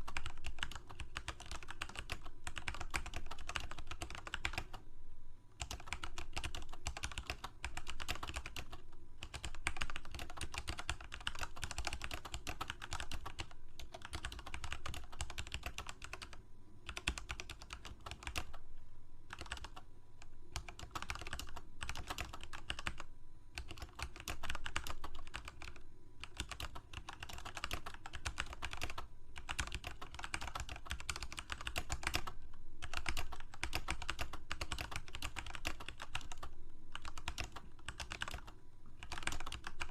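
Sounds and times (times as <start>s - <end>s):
computer keyboard typing: 0.0s - 4.8s, 5.6s - 18.6s, 19.3s - 39.9s.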